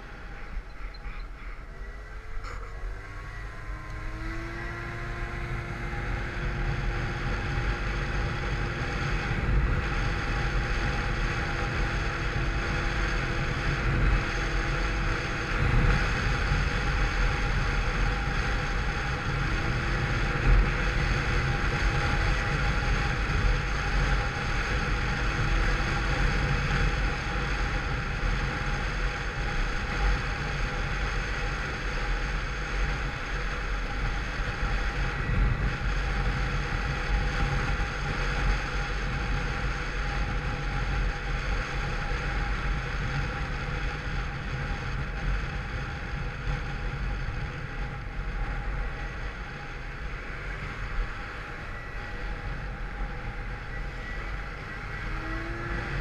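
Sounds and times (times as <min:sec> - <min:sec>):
scooter engine whine: 0:00.0 - 0:56.0
wind noise on microphone: 0:04.0 - 0:56.0.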